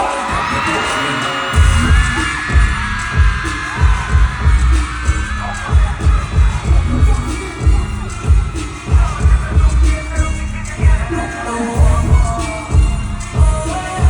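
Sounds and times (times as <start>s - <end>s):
crowd cheering and screaming: 0.0s - 14.0s
heavy pulsing bass beat: 0.0s - 14.0s
live concert music: 0.0s - 14.0s.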